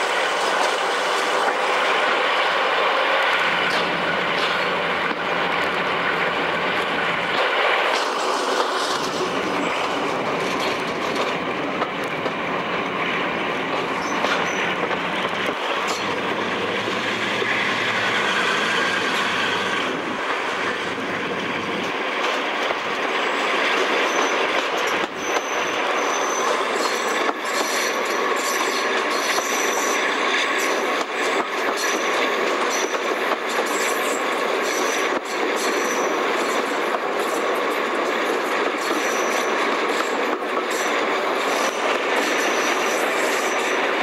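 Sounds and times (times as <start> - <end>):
train running at speed: 0.0 - 44.0.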